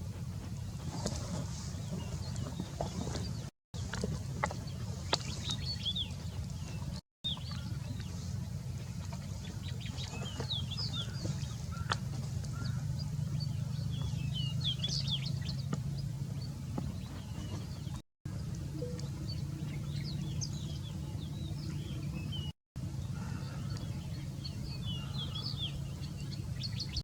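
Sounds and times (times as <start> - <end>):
steady low rumble: 0.0 - 27.0
small birds chirping: 0.3 - 27.0.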